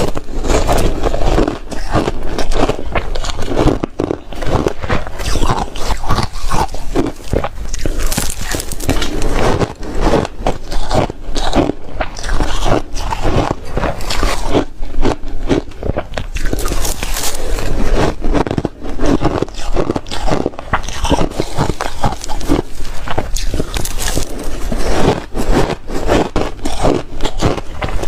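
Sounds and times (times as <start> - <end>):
ice being chewed and crunched: 0.0 - 28.0.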